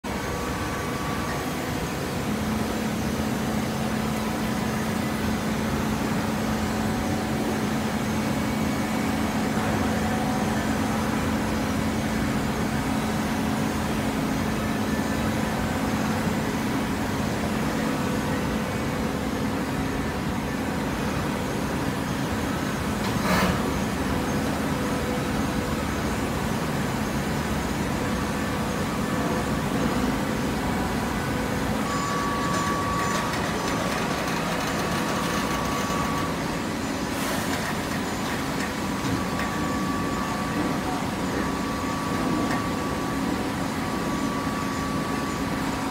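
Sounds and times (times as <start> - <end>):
steady hum: 0.0 - 45.9
hydraulic baler running: 0.1 - 45.9.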